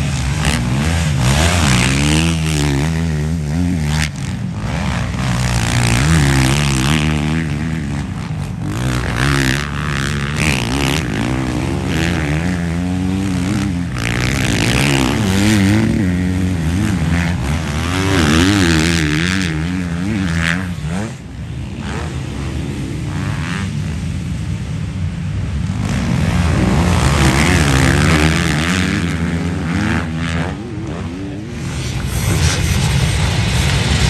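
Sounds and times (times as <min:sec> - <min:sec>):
dirt bike engines revving: 0:00.0 - 0:34.0
many bikes running: 0:00.0 - 0:34.0.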